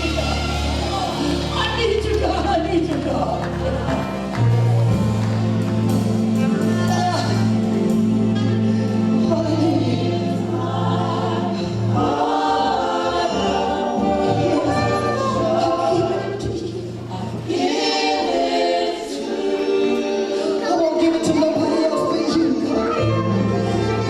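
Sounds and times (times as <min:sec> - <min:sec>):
choir and congregation singing: 0:00.0 - 0:24.0
sustained keyboard chords: 0:00.0 - 0:24.0.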